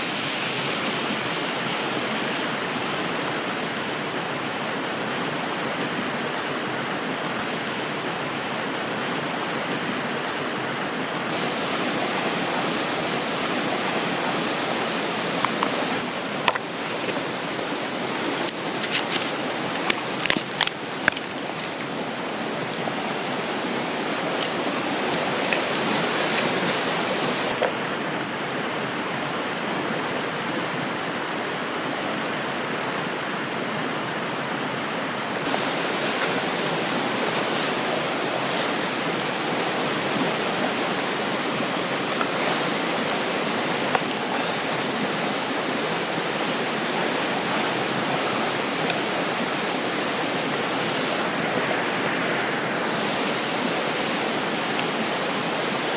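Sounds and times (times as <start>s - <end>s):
flowing river water: 0.0s - 55.9s.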